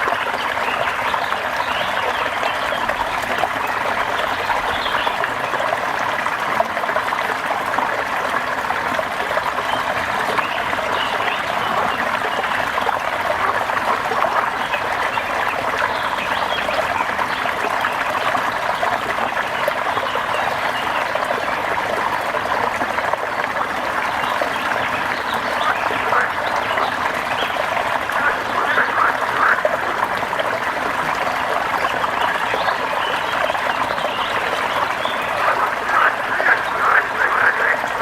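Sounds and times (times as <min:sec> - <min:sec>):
trickling water: 0:00.0 - 0:38.0
rain patter: 0:02.7 - 0:38.0.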